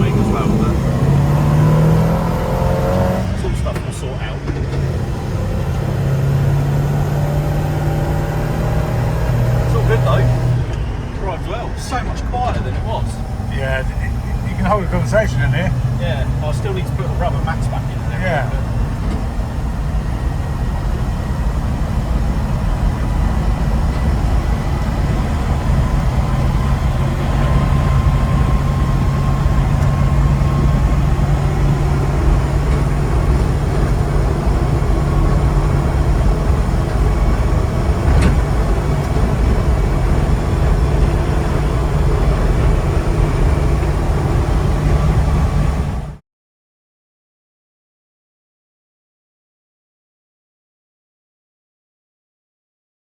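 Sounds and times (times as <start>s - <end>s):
engine low drone: 0.0s - 46.2s
road noise: 0.0s - 46.2s.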